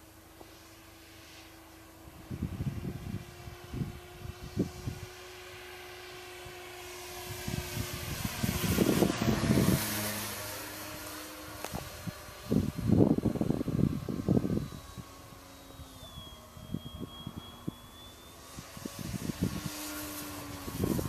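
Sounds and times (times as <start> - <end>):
model plane motor whining: 0.0 - 21.0.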